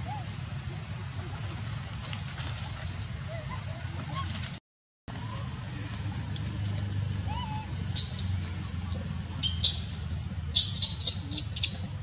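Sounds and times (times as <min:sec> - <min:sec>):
high steady hiss: 0:00.0 - 0:12.0.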